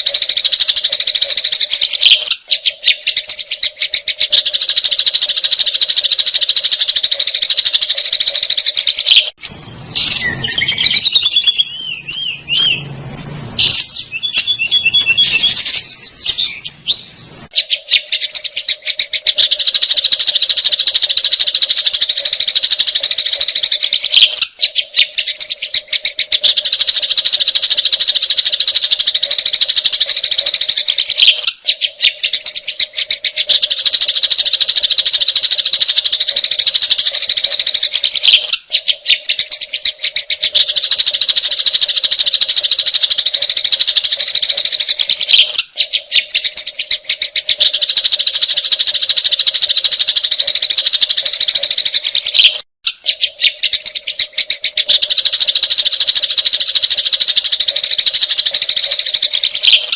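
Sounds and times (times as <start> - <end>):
sparrows chattering: 0.0 - 59.9.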